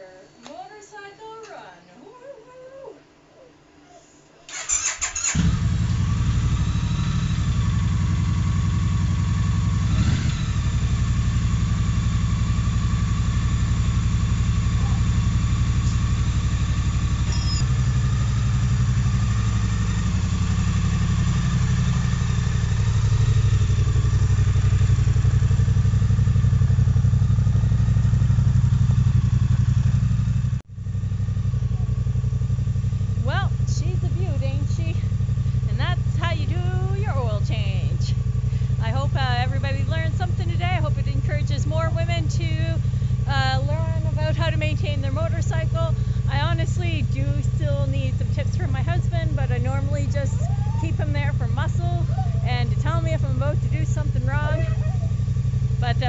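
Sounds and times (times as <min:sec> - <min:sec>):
motorcycle engine starting and idling: 0:04.5 - 0:56.0.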